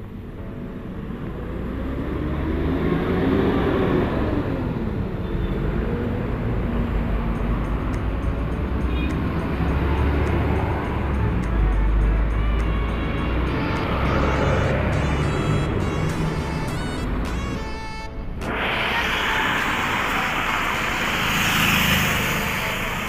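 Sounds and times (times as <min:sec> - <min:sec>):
bus engines rumbling: 0:00.0 - 0:23.0.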